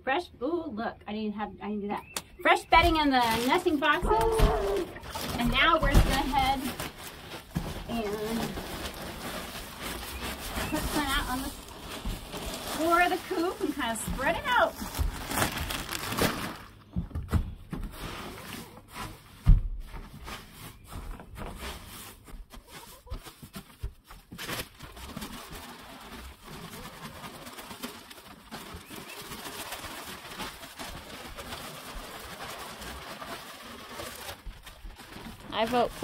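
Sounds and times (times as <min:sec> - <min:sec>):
bedding rustling and scraping: 0:02.4 - 0:36.0.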